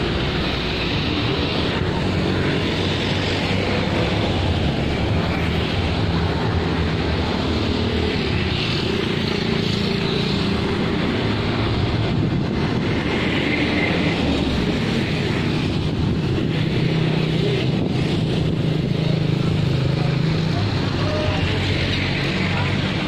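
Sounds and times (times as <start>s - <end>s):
cars passing: 0.0s - 23.0s
motorcycles passing: 0.0s - 23.0s
steady engine hum: 0.0s - 23.0s.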